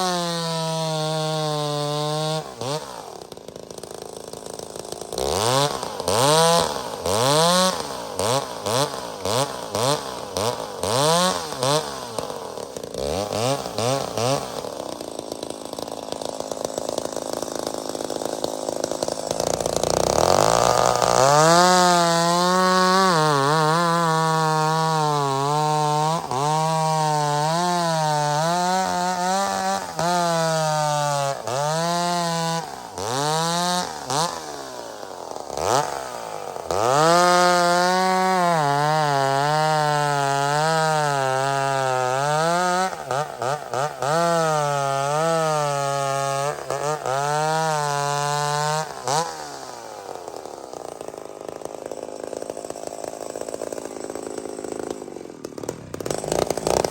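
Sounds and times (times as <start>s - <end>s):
two-stroke chainsaw revving: 0.0s - 56.9s.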